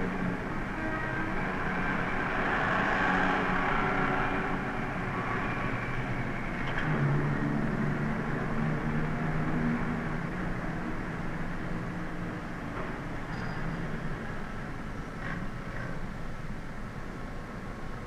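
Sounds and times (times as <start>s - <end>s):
street traffic with vehicles passing: 0.0s - 18.0s.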